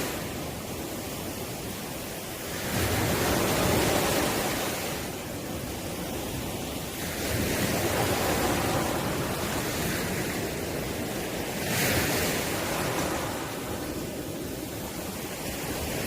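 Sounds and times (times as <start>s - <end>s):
hissing wash of water: 0.0s - 16.0s
ocean surf washing ashore: 0.0s - 16.0s.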